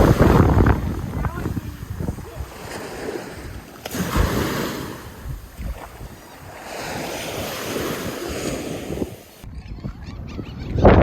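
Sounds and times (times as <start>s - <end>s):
surf washing on beach: 0.0s - 9.5s
wind buffeting microphone: 0.0s - 11.0s.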